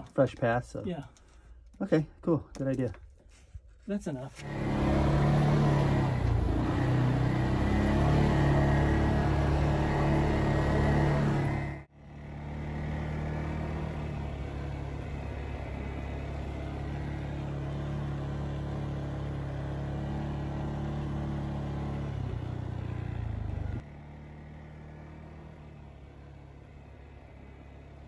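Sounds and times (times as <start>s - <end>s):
atv engine running: 4.4s - 28.0s.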